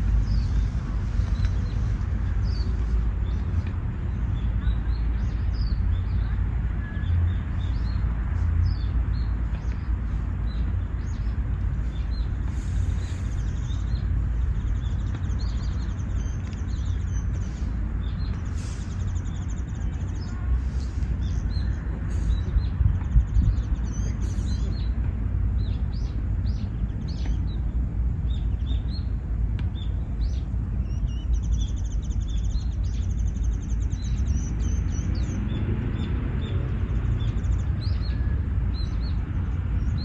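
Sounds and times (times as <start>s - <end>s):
small birds chirping: 0.0s - 40.0s
steady low rumble: 0.0s - 40.0s.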